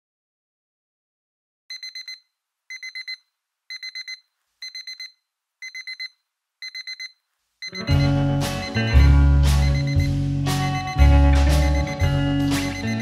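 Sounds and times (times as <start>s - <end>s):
alarm clock beeping: 1.7s - 13.0s.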